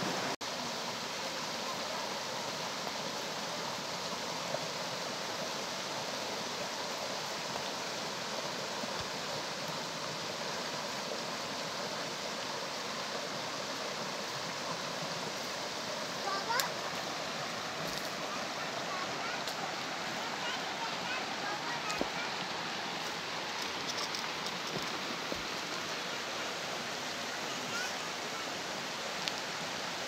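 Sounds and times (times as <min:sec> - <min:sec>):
stream rushing over stones: 0:00.0 - 0:30.0.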